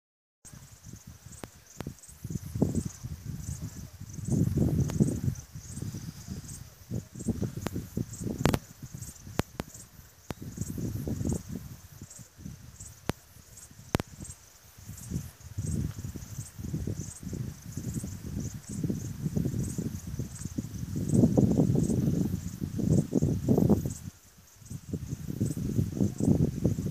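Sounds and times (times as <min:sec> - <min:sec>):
insects chirping: 0:00.5 - 0:26.9
wind buffeting microphone: 0:00.5 - 0:26.9.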